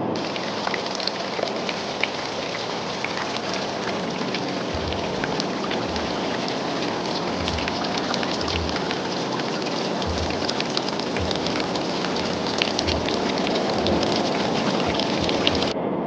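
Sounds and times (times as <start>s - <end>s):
rain falling: 0.0s - 15.8s
wind thumps on microphone: 0.2s - 15.8s.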